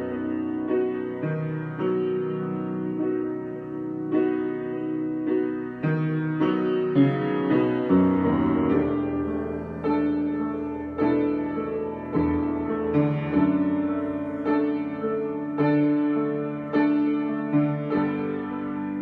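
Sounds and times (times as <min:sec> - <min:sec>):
solo piano chords: 0:00.0 - 0:19.0.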